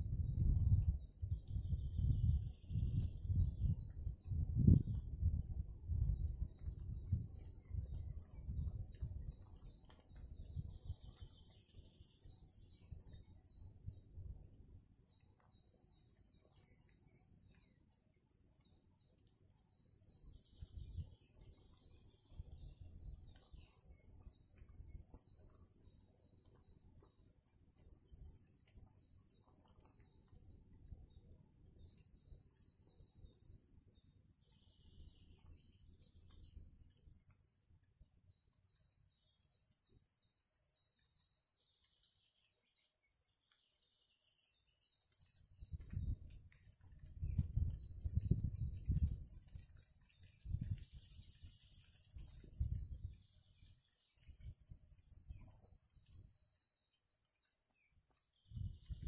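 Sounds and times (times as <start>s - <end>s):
high-pitched birdsong chirping: 0.0s - 59.0s.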